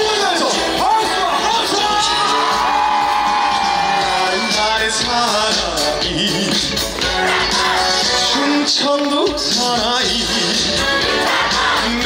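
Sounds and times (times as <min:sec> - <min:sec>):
live song with band over speakers: 0:00.0 - 0:12.0.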